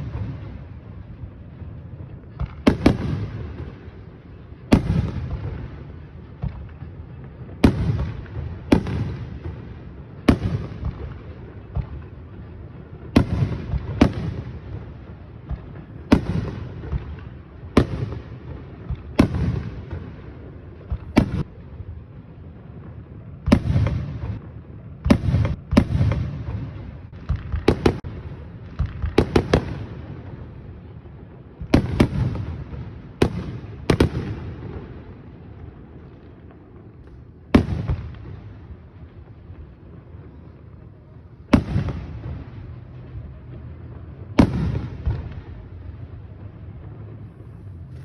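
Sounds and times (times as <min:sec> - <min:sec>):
fireworks bursting with bangs: 0:00.0 - 0:48.0.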